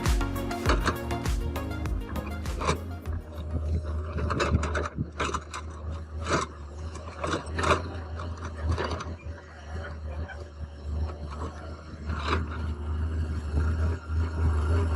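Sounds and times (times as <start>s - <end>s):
excavator engine hum: 0.0s - 14.9s
machine clanks and creaks: 2.1s - 14.9s.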